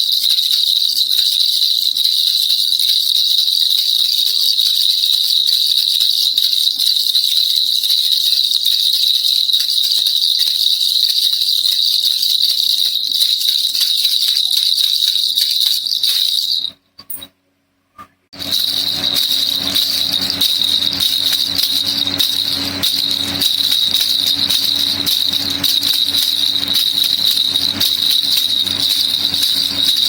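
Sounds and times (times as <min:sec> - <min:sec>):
baby rattle shaken fast: 0:00.0 - 0:16.8, 0:18.4 - 0:30.0.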